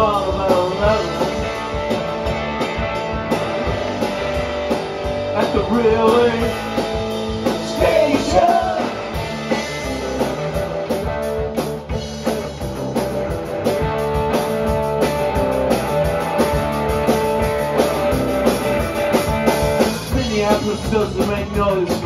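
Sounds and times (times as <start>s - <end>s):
drum kit: 0.0s - 22.0s
electric bass: 0.0s - 22.0s
electric guitar: 0.0s - 22.0s.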